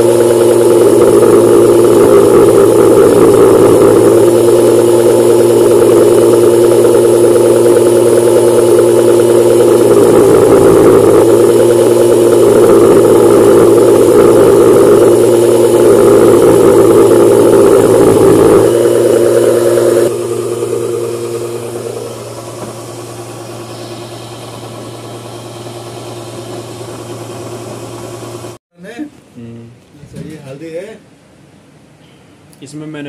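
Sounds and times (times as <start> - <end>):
grain mill grinding hum: 0.0 - 28.6.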